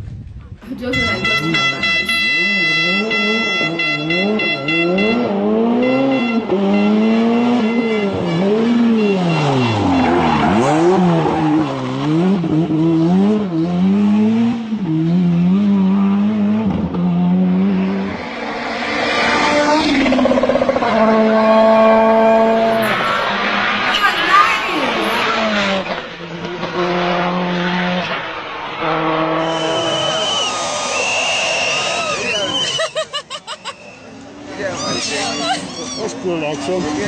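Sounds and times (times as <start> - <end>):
rally car engine revving: 0.7 - 33.0, 33.8 - 37.0.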